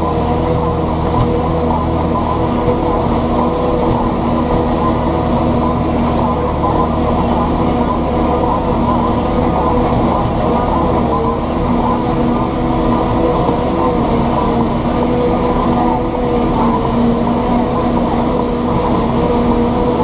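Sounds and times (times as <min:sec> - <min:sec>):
tractor diesel engine droning: 0:00.0 - 0:20.0.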